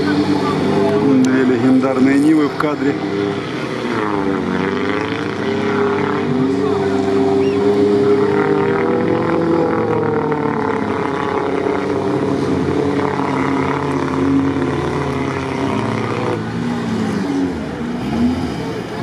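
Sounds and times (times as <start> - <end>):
off-road engines revving hard: 0.0 - 19.0.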